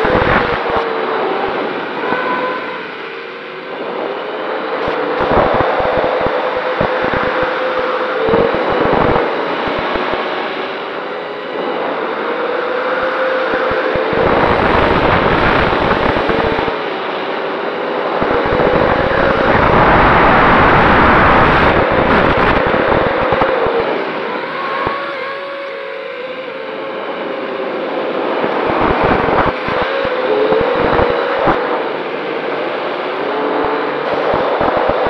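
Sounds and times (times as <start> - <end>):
wind rushing over microphone: 0.0 - 26.1, 26.9 - 35.0
drone motors and propellers whining: 0.0 - 35.0.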